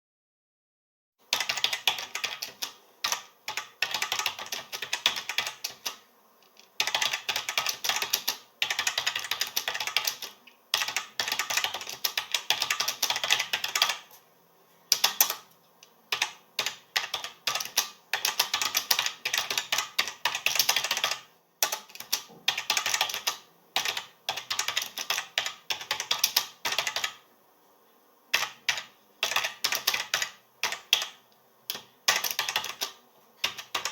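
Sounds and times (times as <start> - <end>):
computer keyboard typing: 1.3 - 14.1, 14.9 - 27.2, 28.3 - 33.9.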